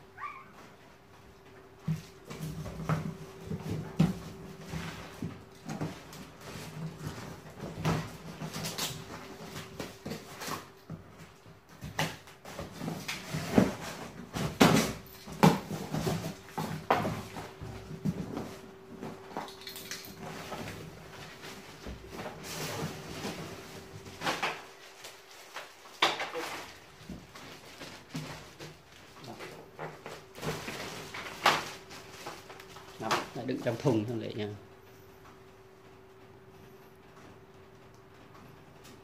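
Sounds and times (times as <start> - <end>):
cardboard and plastic rustling: 0.2 - 39.0.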